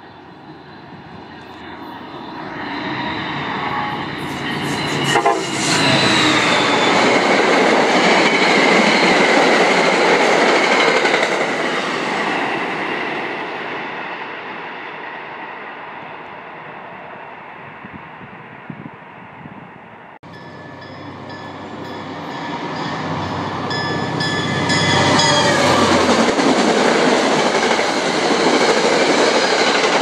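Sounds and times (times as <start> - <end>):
train passing at speed: 0.0 - 30.0.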